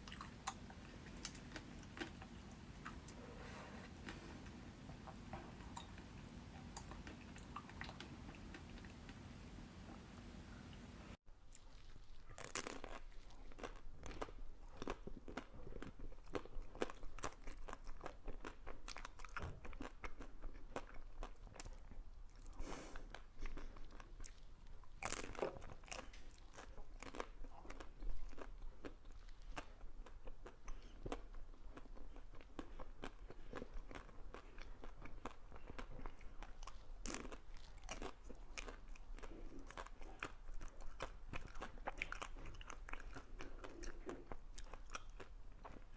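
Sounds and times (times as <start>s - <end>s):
ice cream being bitten and chewed: 0.0s - 3.2s, 11.4s - 45.9s.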